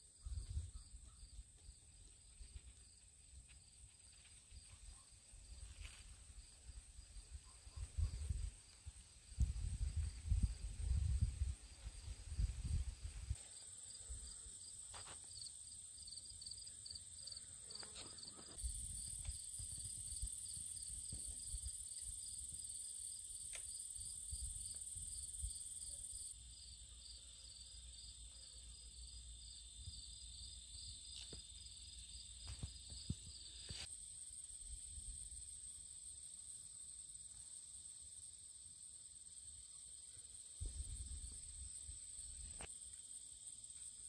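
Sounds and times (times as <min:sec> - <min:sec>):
insects trilling: 0:00.1 - 0:44.0.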